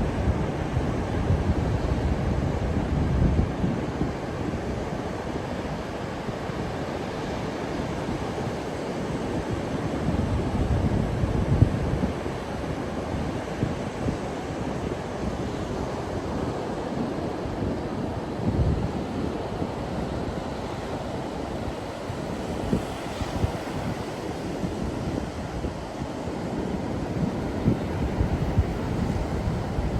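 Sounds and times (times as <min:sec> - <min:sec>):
ocean waves washing ashore: 0:00.0 - 0:29.9
wind buffeting microphone: 0:00.0 - 0:29.9.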